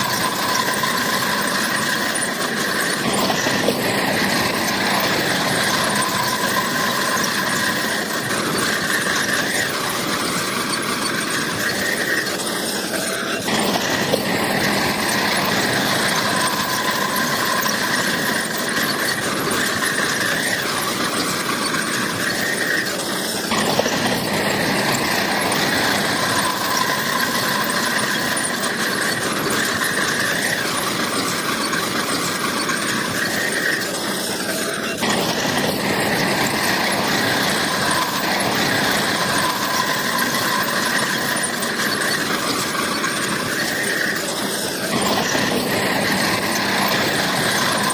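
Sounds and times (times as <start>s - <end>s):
bulldozer engine running: 0.0s - 47.9s
steel tracks squealing: 0.0s - 47.9s.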